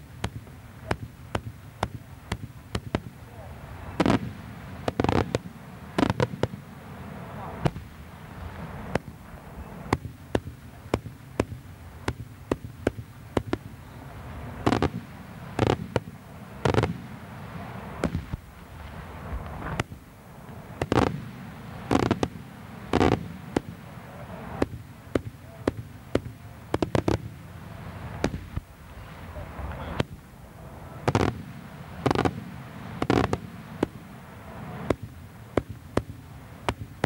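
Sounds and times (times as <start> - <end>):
fireworks cracks and bangs: 0.0 - 37.0
heavy firework booms: 0.0 - 37.0.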